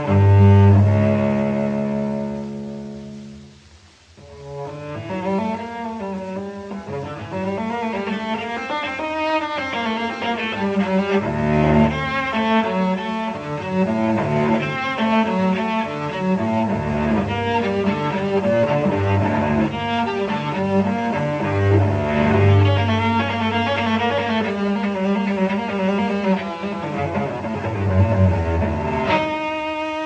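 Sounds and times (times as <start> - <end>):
bowed strings with cello: 0.0 - 30.0.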